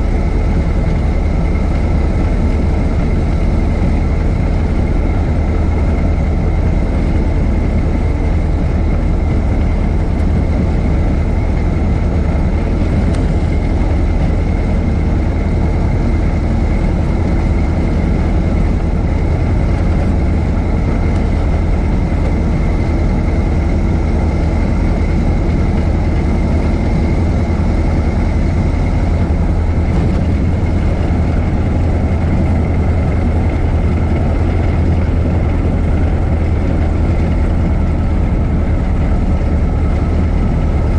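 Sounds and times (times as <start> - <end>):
old car engine running: 0.0 - 40.9.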